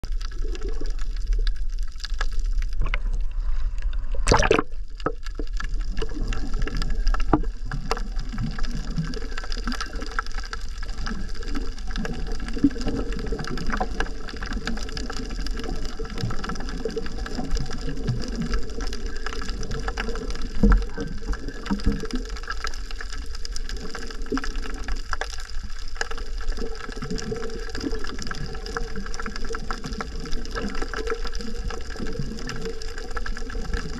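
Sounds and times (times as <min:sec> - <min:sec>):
muffled underwater rumble: 0:00.0 - 0:33.9.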